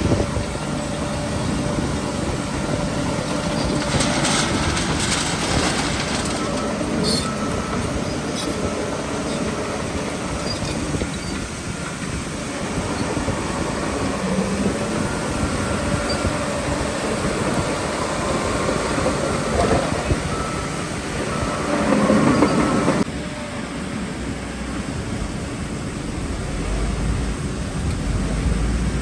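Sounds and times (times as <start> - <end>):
steel tracks clanking and squealing: 0.0 - 24.2
bulldozer diesel engine: 0.0 - 29.0.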